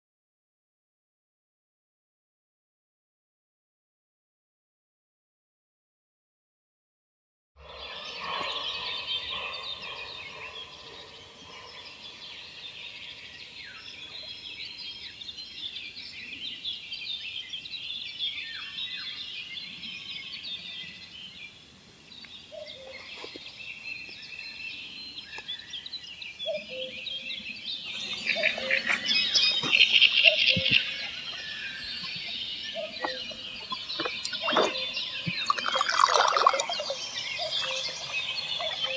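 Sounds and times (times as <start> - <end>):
songbirds chirping and trilling: 7.6 - 38.9.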